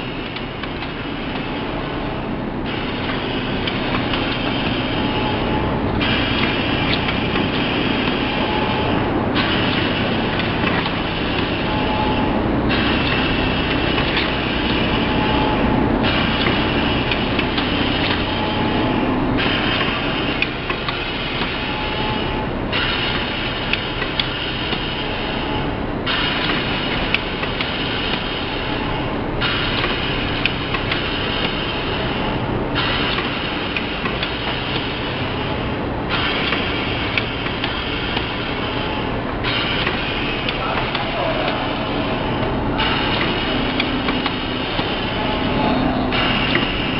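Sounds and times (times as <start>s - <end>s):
packing machine running: 0.0s - 46.9s.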